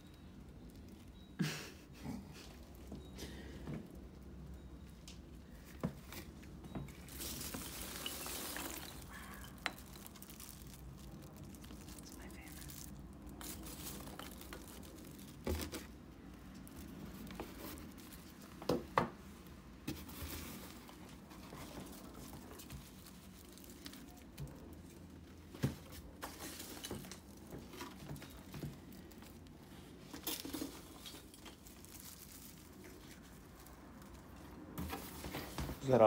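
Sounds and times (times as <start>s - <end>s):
plastic wrap and packing peanuts rustling: 5.3s - 36.0s.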